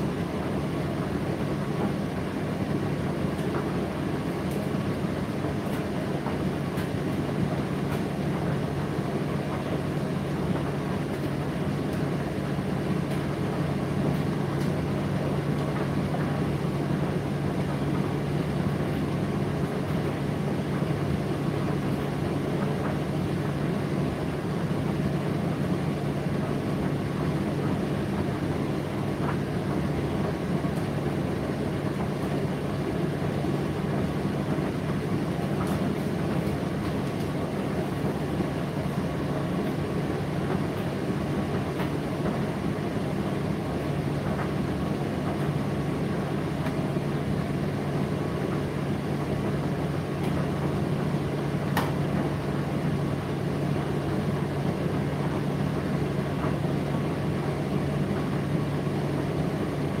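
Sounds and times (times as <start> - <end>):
tumble dryer motor hum: 0.0 - 60.0.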